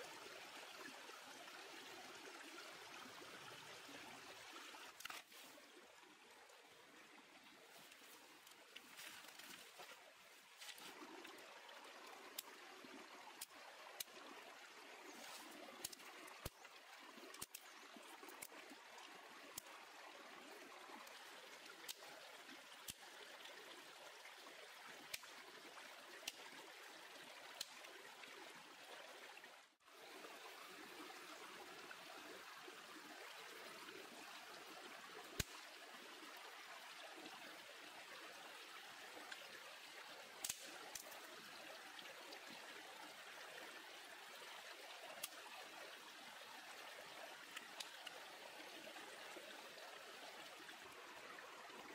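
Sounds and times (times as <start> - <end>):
small stream rushing: 0.0 - 51.9.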